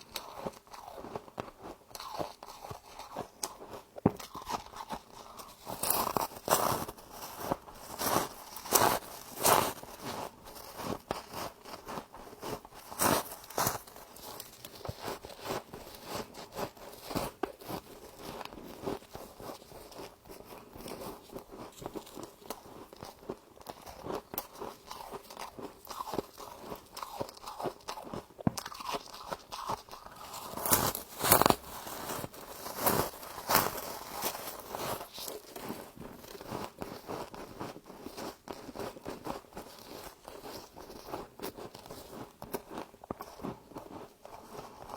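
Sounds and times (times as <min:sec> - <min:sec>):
person chewing crisp frost: 0:00.0 - 0:44.9.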